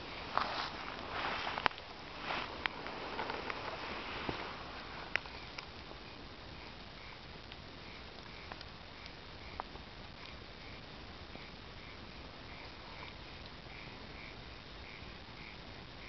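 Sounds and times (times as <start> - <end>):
low hiss of fire: 0.0 - 15.4
wood bonfire crackling: 0.0 - 16.0.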